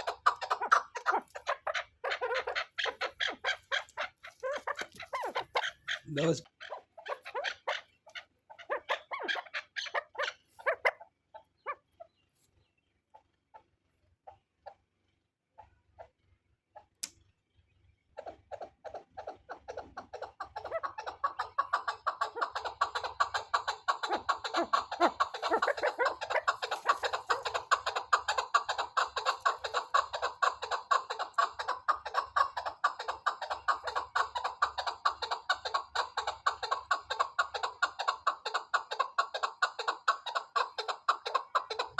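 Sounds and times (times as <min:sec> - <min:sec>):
partridge chuck calls: 0:00.0 - 0:17.2, 0:18.0 - 0:41.9.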